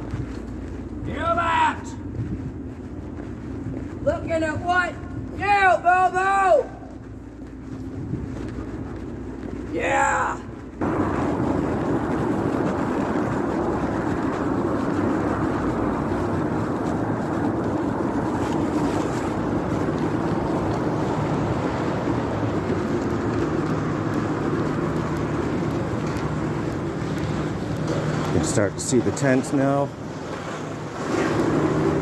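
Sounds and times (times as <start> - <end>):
city street traffic rumble: 0.0 - 32.0
low steady hum: 0.0 - 32.0.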